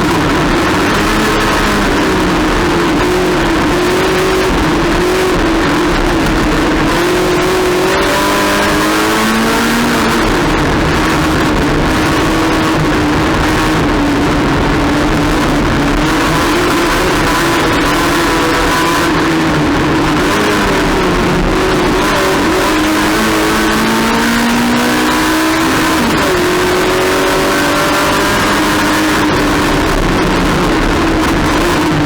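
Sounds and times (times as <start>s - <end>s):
race car engine at high revs: 0.0s - 32.0s.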